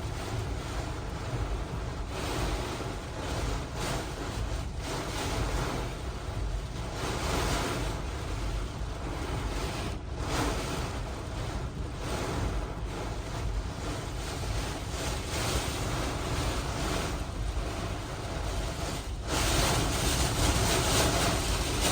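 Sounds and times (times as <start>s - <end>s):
constant low rumble: 0.0s - 21.9s.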